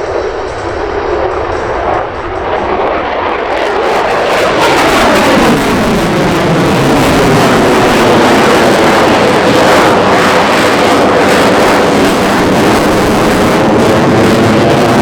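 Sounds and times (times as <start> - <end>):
jet fly-past: 0.0 - 15.0.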